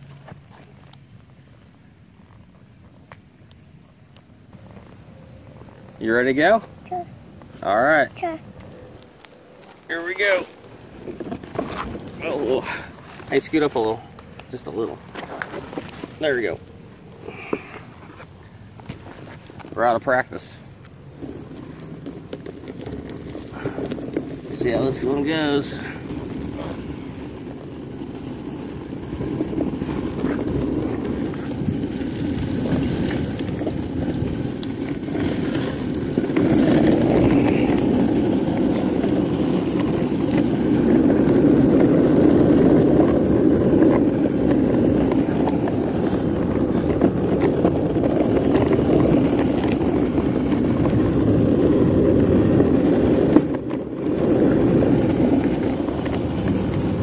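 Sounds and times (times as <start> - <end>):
skateboard wheels rolling on asphalt: 0.0 - 57.0.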